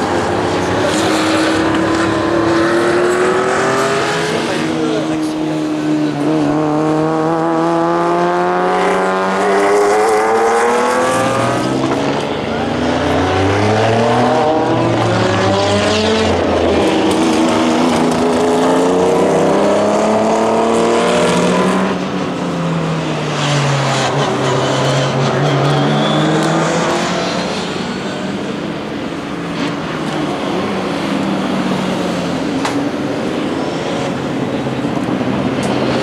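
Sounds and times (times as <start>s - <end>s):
racing car engines accelerating: 0.0s - 36.0s.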